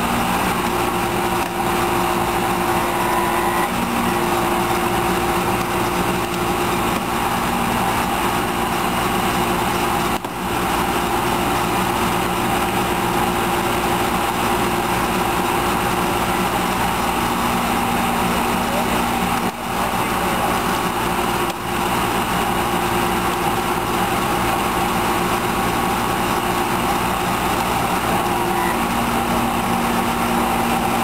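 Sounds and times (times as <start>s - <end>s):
small gasoline engine running: 0.0s - 31.0s.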